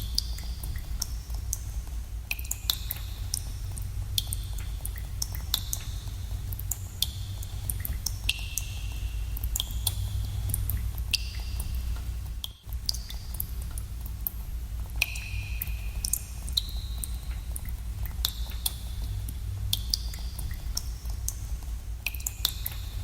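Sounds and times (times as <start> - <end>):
steady low rumble: 0.0 - 23.0
water drops plinking in a cave: 0.0 - 23.0.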